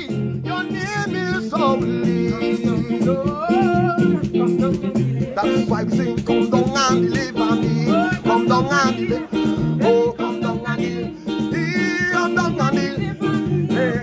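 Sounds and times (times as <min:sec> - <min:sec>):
electronic keyboard accompaniment: 0:00.0 - 0:14.0
man singing gospel song: 0:00.0 - 0:14.0.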